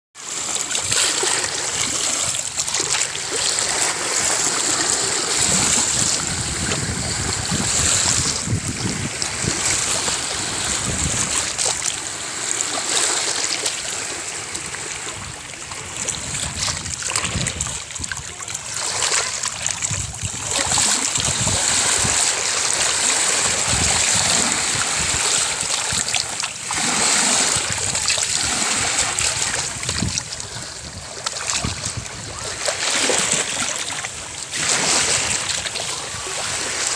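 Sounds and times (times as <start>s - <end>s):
waves washing over pebbles: 0.2s - 36.9s.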